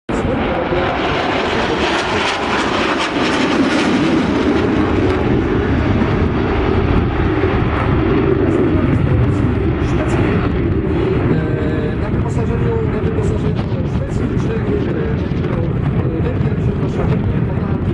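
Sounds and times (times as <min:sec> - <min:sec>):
fighter jet engine: 0:00.1 - 0:17.9.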